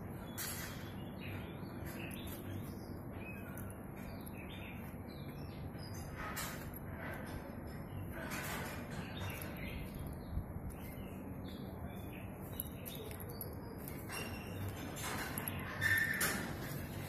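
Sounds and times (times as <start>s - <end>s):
birds chirping: 0.0s - 17.0s
low background noise: 0.0s - 17.0s.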